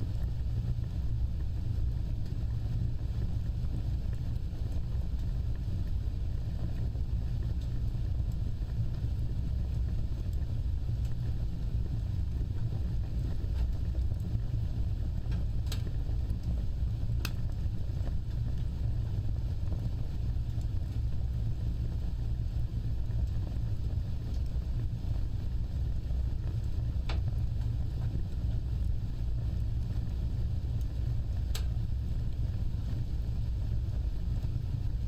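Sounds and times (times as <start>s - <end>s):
fire crackling pops: 0.0s - 35.0s
low rumble of flames: 0.0s - 35.0s.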